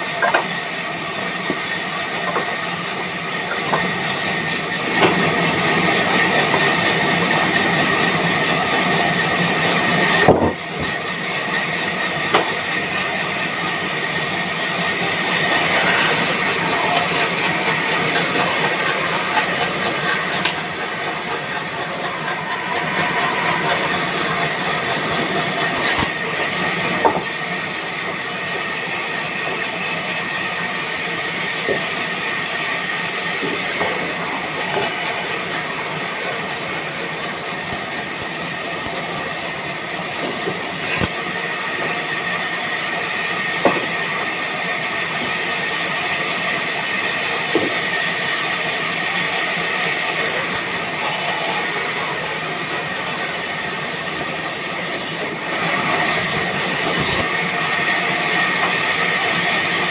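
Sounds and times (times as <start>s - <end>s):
band saw cutting wood: 0.0s - 59.9s.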